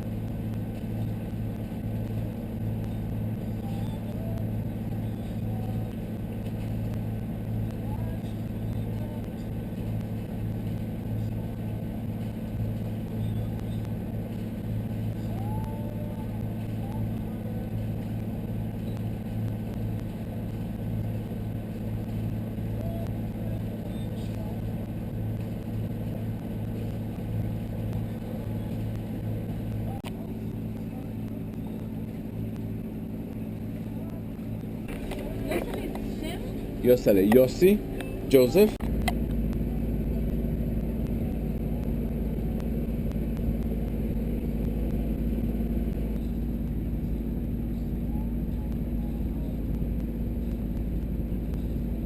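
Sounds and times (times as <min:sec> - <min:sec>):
boat engine humming: 0:00.0 - 0:52.0.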